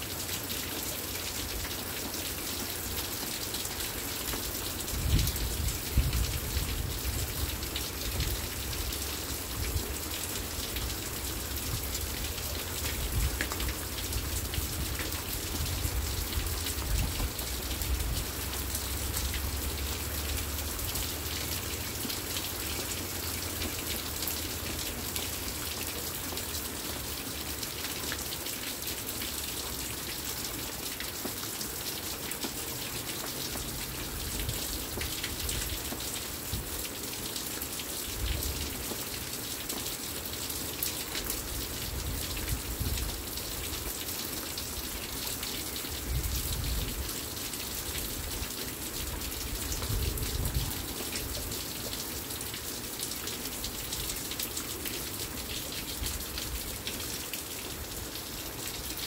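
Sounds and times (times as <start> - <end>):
rain on wooden deck: 0.0 - 59.0.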